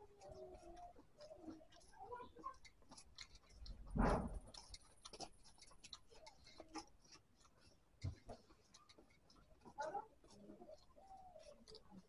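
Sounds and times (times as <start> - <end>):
chewing and mouth clicks: 0.0 - 12.0
fingers mixing rice on steel plate: 0.0 - 12.0.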